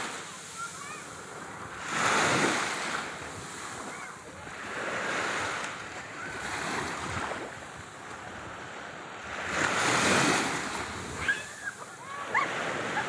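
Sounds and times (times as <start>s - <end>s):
small waves lapping on beach: 0.0s - 13.0s.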